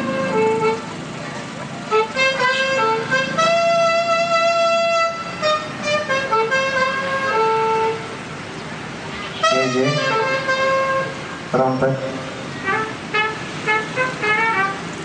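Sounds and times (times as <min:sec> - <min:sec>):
alto saxophone melody: 0:00.0 - 0:08.3, 0:09.1 - 0:15.0.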